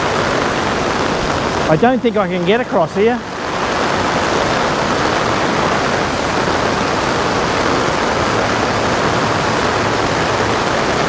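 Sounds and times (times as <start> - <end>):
floodwater rushing in creek: 0.0 - 11.0.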